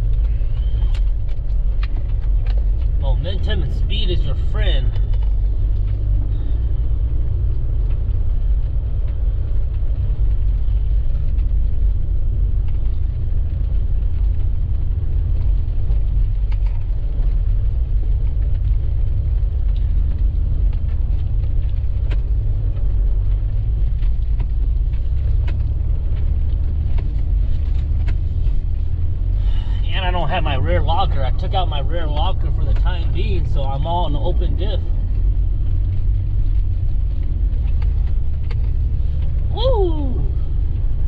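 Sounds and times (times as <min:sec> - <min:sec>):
truck driving on snow: 0:00.0 - 0:41.0.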